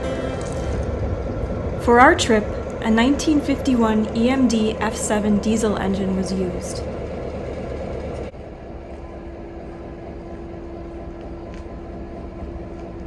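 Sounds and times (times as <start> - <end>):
diesel locomotive running: 0.0 - 13.0
steady hum: 0.0 - 13.0.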